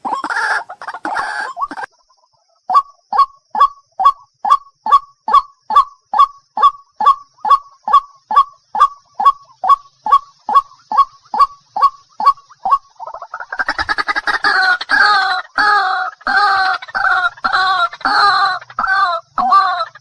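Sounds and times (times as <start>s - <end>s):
waterhen calling: 0.0s - 1.9s, 2.7s - 20.0s.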